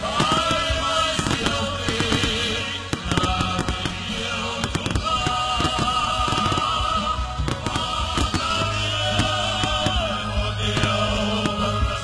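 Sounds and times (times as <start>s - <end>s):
fireworks bangs and crackles: 0.0s - 12.0s
music with held notes: 0.0s - 12.0s.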